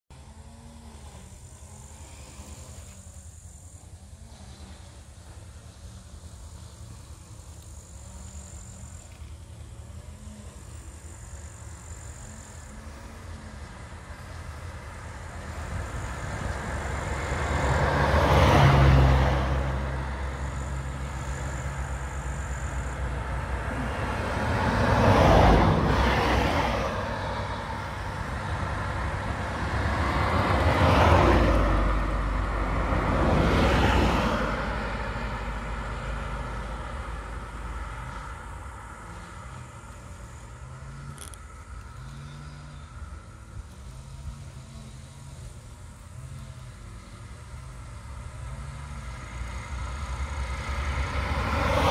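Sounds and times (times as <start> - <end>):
low traffic rumble: 0.1 - 51.9
vehicles driving past: 0.1 - 51.9.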